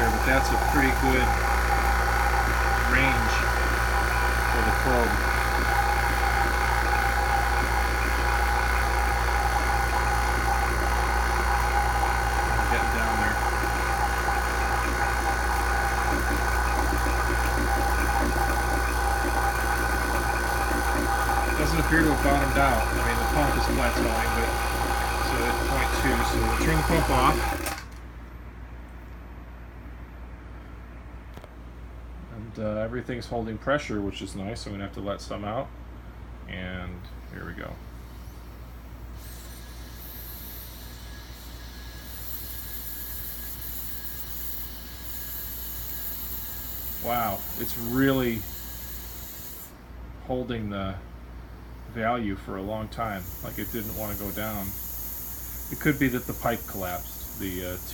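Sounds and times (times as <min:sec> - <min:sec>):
vacuum pump humming and whining: 0:00.0 - 0:28.3, 0:37.0 - 0:57.9.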